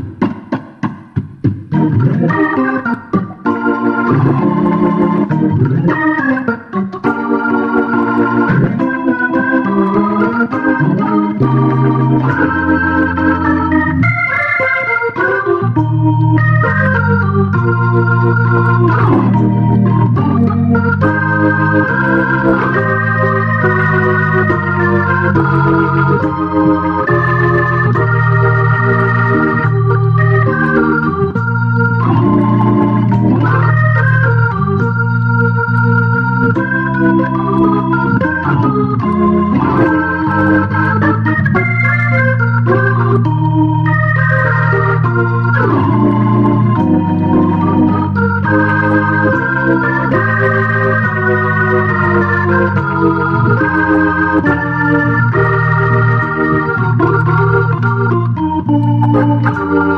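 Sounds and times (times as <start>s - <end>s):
organ-like keyboard tune: 0.0s - 59.9s
sustained bass line: 1.7s - 2.9s, 4.0s - 6.1s, 7.9s - 14.4s, 15.4s - 59.9s.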